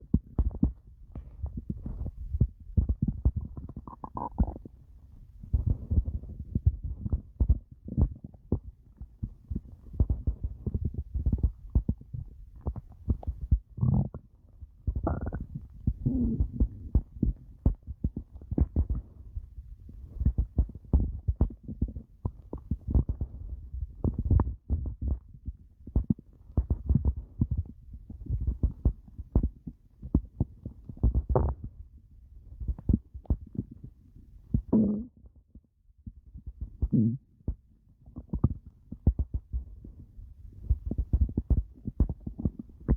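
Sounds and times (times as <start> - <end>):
stomach growling and gurgling: 0.0 - 42.9.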